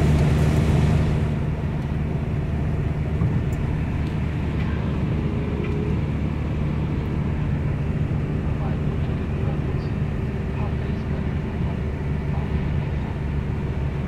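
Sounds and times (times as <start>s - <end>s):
car cabin engine and road drone: 0.0s - 14.0s.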